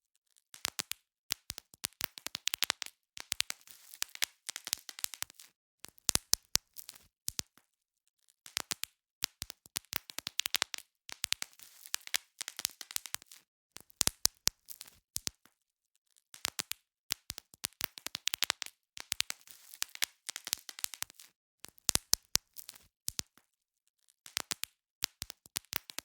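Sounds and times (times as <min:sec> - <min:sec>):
bubble wrap popping: 0:00.6 - 0:07.6, 0:08.5 - 0:15.5, 0:16.4 - 0:23.4, 0:24.2 - 0:26.0.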